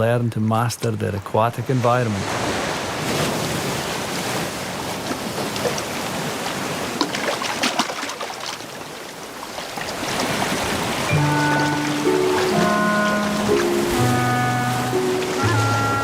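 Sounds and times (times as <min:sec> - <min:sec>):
water rushing: 0:00.9 - 0:16.0
small water splashes: 0:02.2 - 0:15.8.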